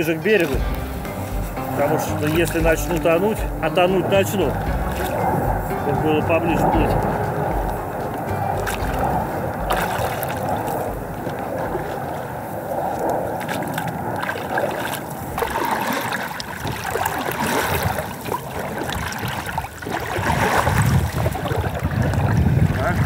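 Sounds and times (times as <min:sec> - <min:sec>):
paddle strokes in water: 0:00.0 - 0:23.0
water splashing against boat: 0:00.0 - 0:23.0.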